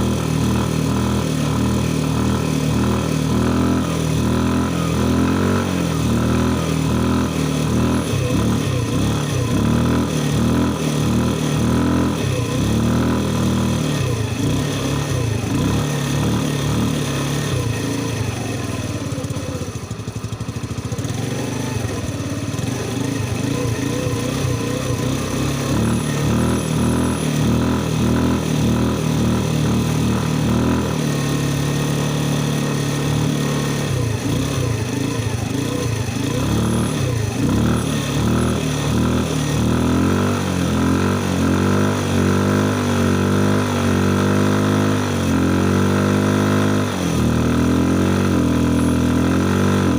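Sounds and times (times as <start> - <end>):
car engine revving: 0.0 - 19.5, 20.3 - 49.9.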